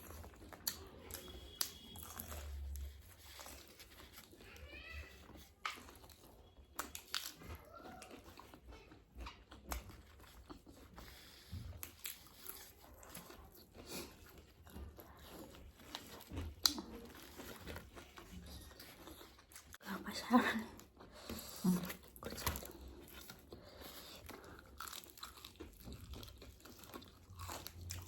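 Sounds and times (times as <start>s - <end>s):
crunchy chewing of fried chicken: 0.0s - 28.0s.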